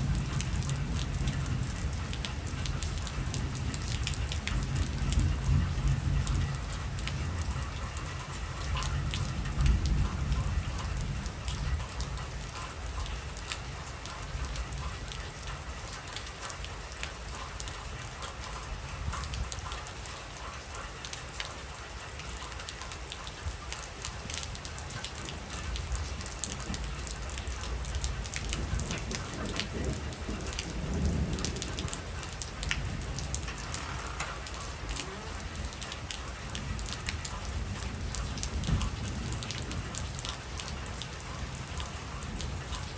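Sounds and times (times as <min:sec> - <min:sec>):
heavy rain pattering: 0:00.0 - 0:42.9.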